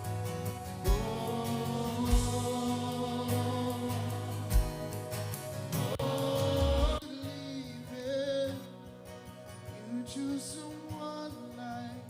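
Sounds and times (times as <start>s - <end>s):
worship band music with singing: 0.0s - 12.0s.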